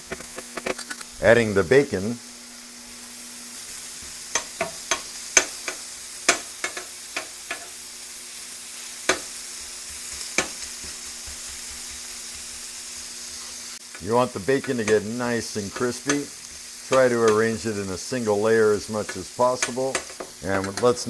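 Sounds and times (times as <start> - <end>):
bacon sizzling on a griddle: 0.0 - 21.0.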